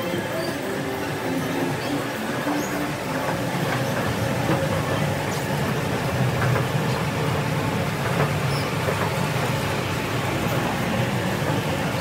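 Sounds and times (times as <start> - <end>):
escalator rumbling and clicking: 0.0 - 12.0.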